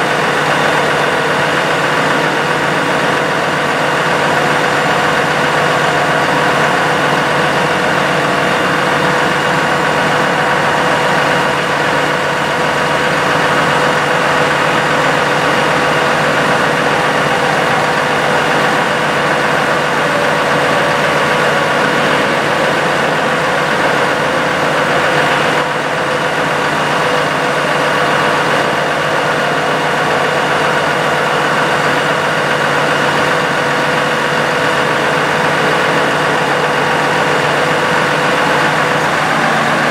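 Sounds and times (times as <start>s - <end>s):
steady whine: 0.0s - 39.9s
truck engine idling: 0.0s - 39.9s.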